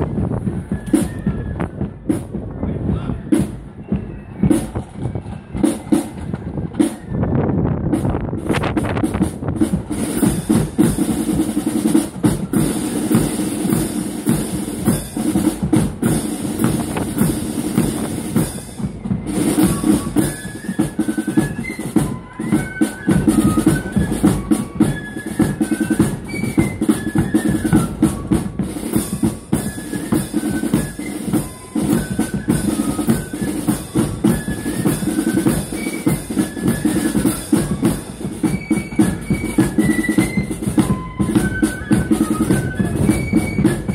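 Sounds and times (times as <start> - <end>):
flutes playing high melody: 0.0 - 2.2, 10.0 - 43.9
side drums and bass drum march: 0.0 - 43.9.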